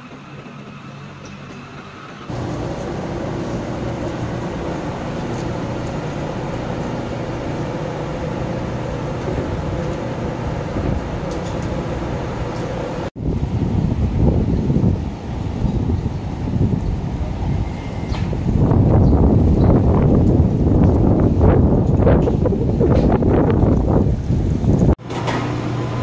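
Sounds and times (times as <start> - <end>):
mechanical hum: 0.0 - 26.0
street noise: 0.0 - 26.0
wind buffeting microphone: 2.3 - 25.0.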